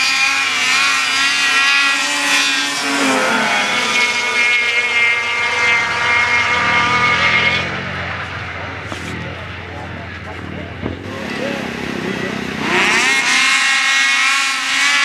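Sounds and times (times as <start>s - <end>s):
snowmobile engines whining: 0.0s - 15.0s.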